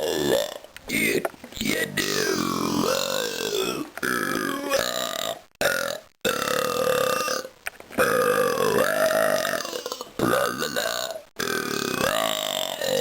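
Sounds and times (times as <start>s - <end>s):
person burp-singing: 0.0s - 13.0s.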